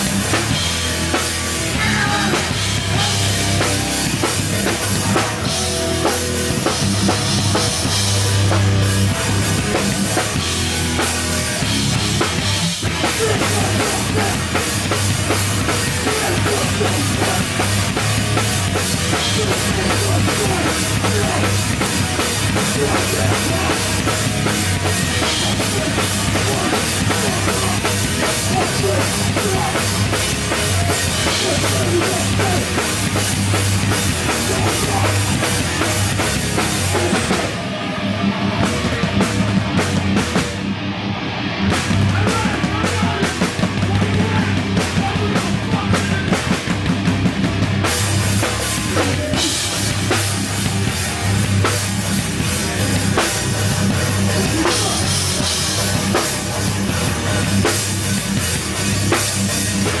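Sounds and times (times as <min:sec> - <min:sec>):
hardcore band playing live: 0:00.0 - 1:00.0.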